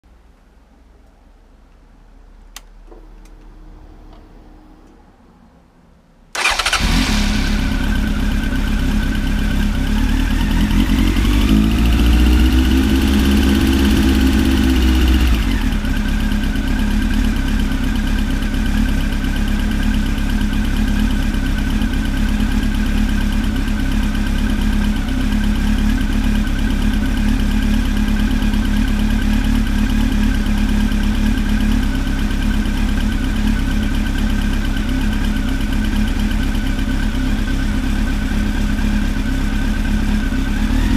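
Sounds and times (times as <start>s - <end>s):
engine ticking: 6.4s - 40.4s
motorcycle engine running: 6.4s - 40.9s.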